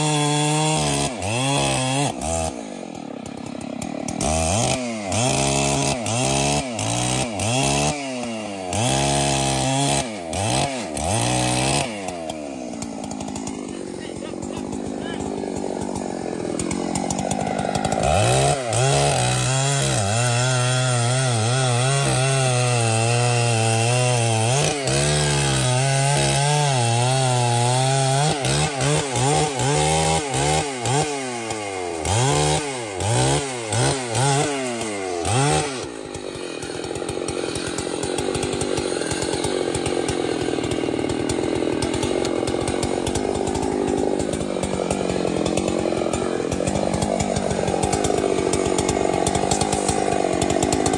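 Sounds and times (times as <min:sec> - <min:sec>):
chainsaw cutting: 0:00.0 - 0:50.9.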